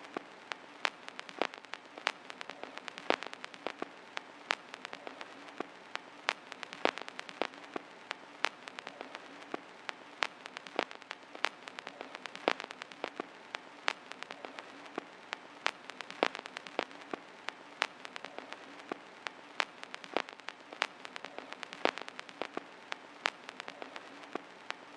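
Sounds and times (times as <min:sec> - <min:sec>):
vinyl record crackle and hiss: 0:00.0 - 0:24.9.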